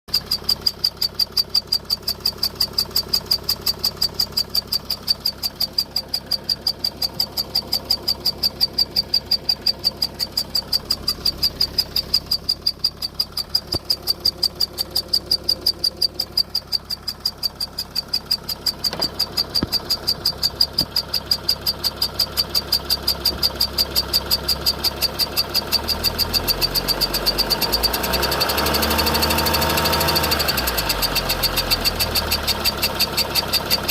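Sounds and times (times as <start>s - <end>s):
high-pitched squeak from engine: 0.1s - 33.9s
van engine idling: 0.1s - 33.9s.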